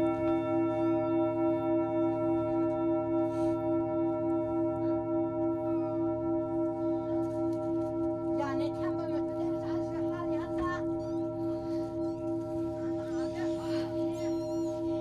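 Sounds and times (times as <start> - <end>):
bell-like ringing drone: 0.0 - 15.0.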